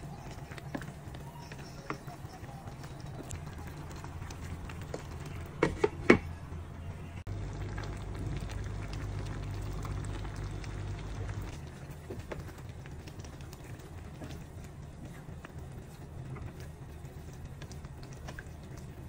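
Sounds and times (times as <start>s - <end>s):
low hum: 0.0s - 19.0s
pan bubbling and crackling: 0.0s - 19.0s.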